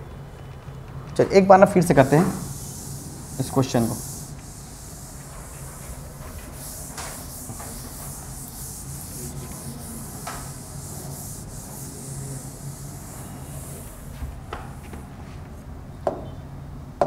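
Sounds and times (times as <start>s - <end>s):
steady hiss: 1.2s - 15.6s.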